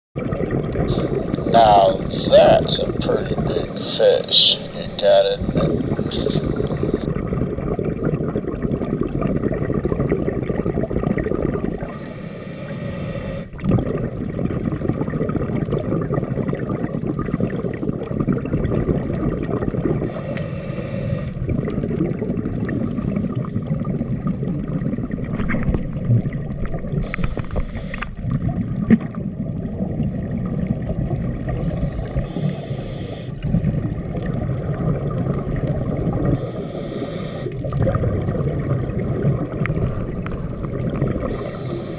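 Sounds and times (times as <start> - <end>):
underwater rumbling water: 0.2 - 41.9.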